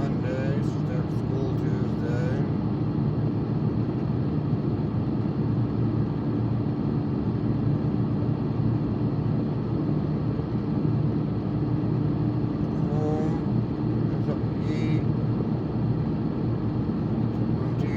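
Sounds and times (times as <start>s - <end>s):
car road and engine drone: 0.0s - 17.9s.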